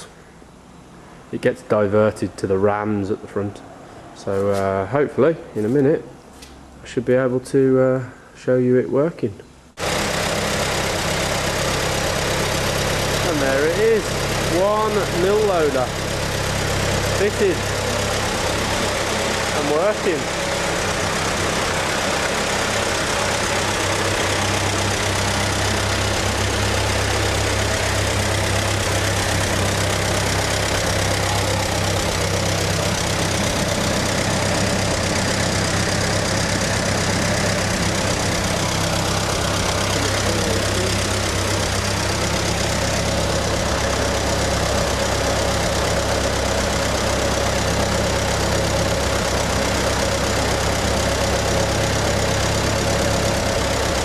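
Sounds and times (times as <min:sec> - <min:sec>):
tractor engine idling: 0:09.7 - 0:54.0.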